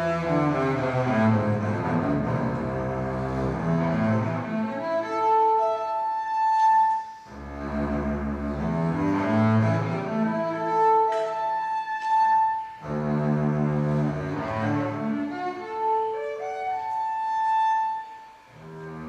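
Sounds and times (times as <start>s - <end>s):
cello and double bass playing: 0.0s - 19.0s.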